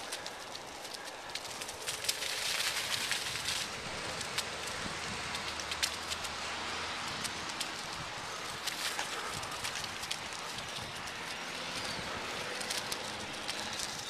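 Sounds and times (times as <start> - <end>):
dry leaves crackling underfoot: 0.0 - 14.0.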